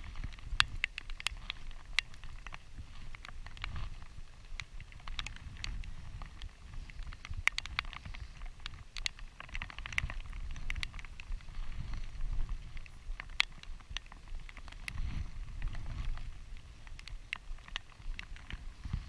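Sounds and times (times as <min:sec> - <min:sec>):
light rain ticking on camera: 0:00.0 - 0:19.0.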